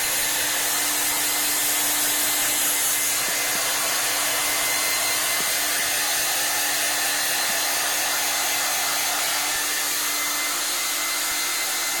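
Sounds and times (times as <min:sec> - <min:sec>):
hairdryer blowing: 0:00.0 - 0:12.0.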